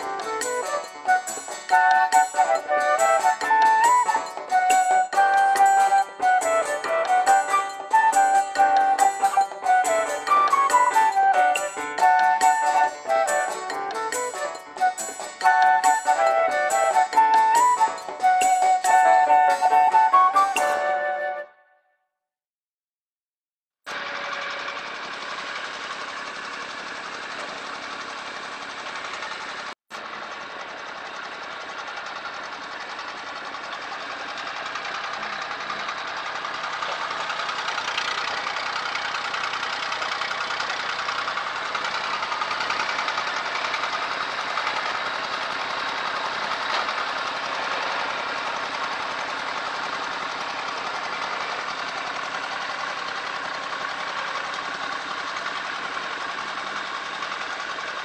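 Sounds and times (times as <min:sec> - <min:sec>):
tractor engine running: 0:00.0 - 0:21.4, 0:23.9 - 0:58.0.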